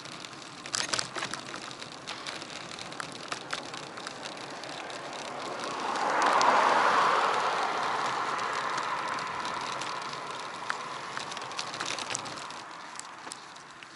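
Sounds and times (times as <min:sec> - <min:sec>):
bike rattling clicks: 0:00.0 - 0:13.9.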